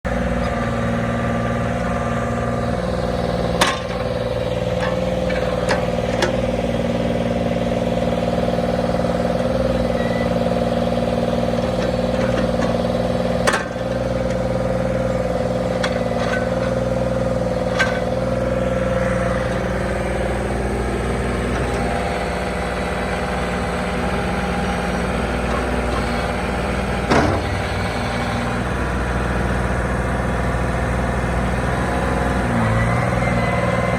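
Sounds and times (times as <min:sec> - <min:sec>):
backhoe engine running: 0:00.0 - 0:33.9.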